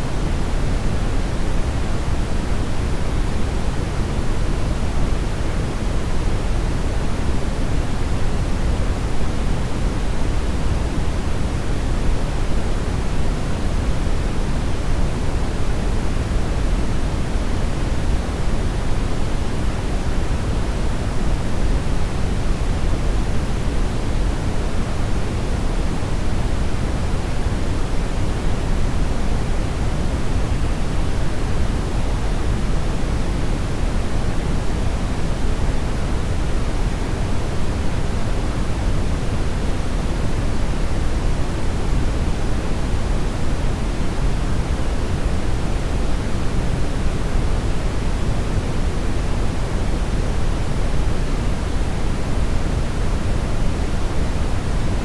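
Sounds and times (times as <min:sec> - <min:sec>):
brown noise rumbling hiss: 0:00.0 - 0:55.0.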